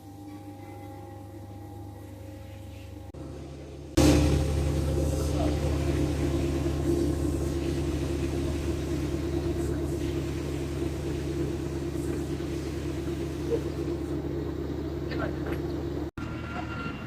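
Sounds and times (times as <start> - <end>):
engine idling: 0.4 - 16.1.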